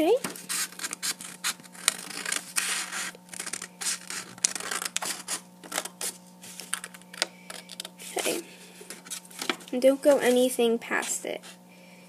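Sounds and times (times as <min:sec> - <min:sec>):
scissors snipping paper: 0:00.3 - 0:11.2
paper rustling: 0:00.3 - 0:11.6.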